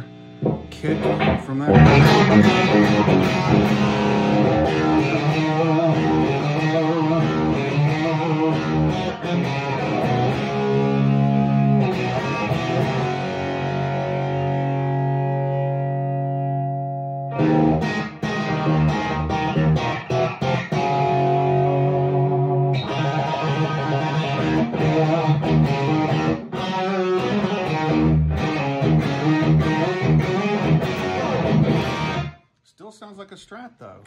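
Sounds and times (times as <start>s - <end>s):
overdriven electric guitar: 0.0s - 32.4s.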